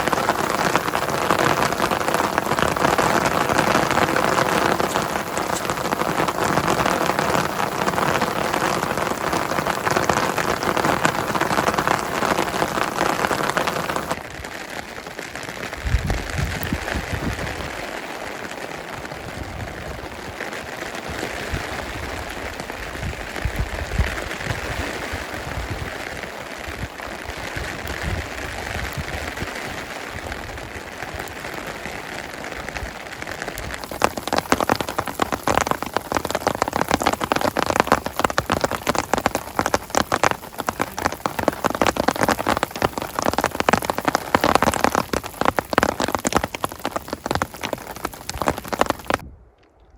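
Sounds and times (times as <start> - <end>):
heavy rain pattering: 0.0 - 49.2.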